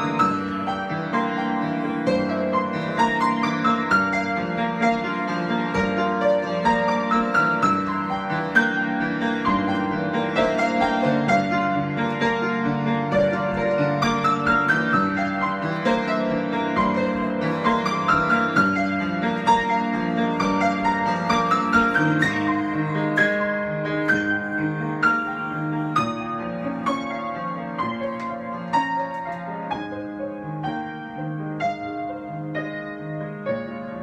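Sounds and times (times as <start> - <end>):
solo piano improvisation: 0.0 - 34.0.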